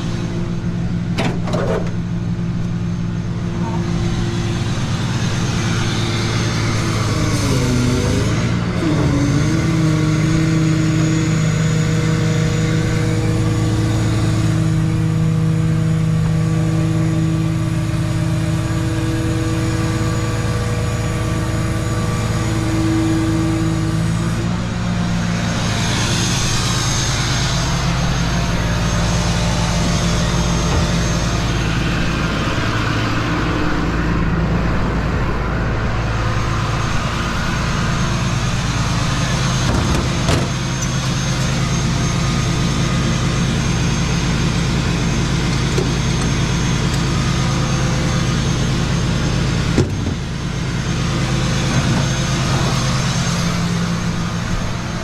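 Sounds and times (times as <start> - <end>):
road noise: 0.0 - 55.0
vehicle engine droning: 0.0 - 55.0.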